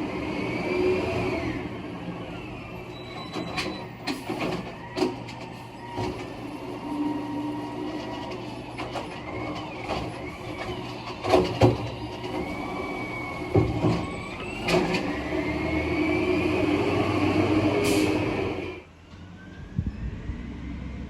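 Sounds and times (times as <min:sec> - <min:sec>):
garbage truck engine running: 0:00.0 - 0:21.0.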